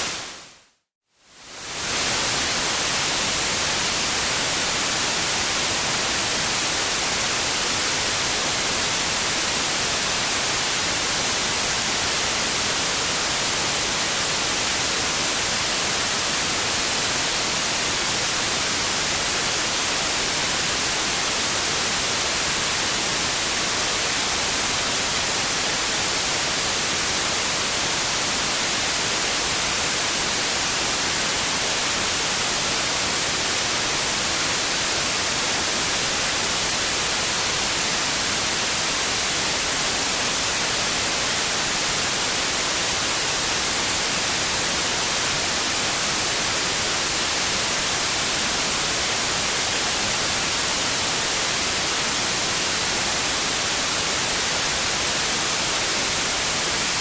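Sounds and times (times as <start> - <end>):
electronic white noise hiss: 0.0 - 57.0.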